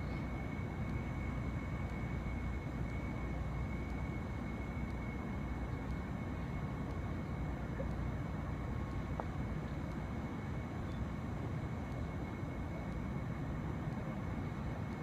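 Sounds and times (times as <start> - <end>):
thin high whine: 0.0 - 15.0.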